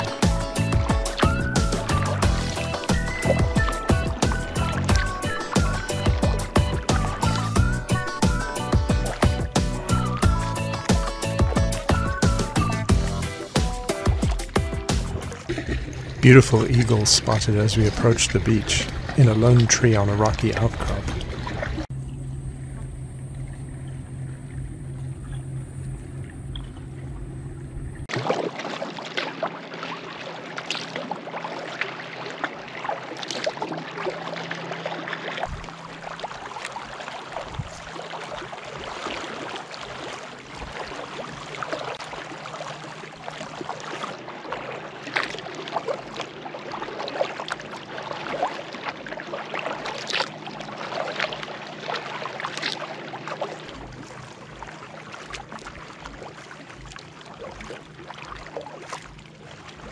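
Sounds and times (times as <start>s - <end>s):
paddle splashing water: 0.0s - 59.9s.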